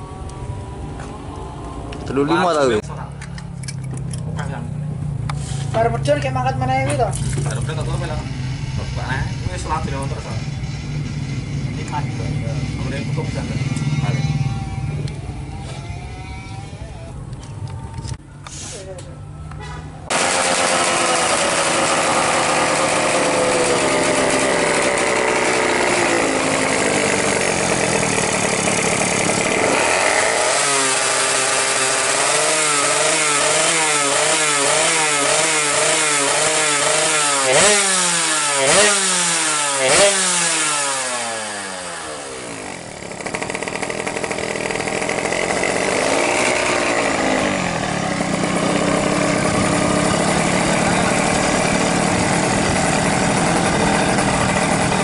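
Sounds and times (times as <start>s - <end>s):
two-stroke engine revving: 3.7s - 17.3s, 19.6s - 55.0s.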